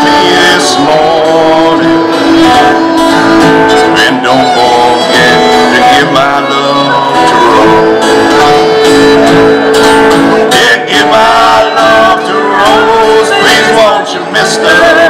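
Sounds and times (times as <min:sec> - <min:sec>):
acoustic guitar: 0:00.0 - 0:15.0
man singing: 0:00.0 - 0:15.0.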